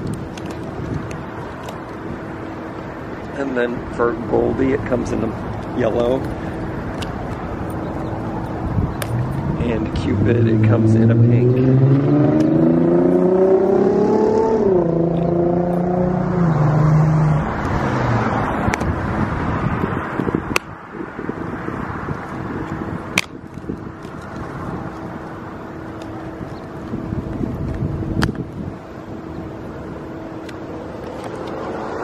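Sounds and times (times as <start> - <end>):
road noise hum: 0.0 - 32.0
vehicle engine accelerating: 0.0 - 32.0.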